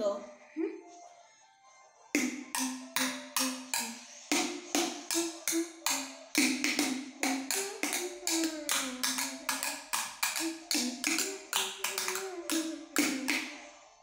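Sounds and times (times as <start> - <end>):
sticks drumming on plastic jugs: 2.2 - 13.5.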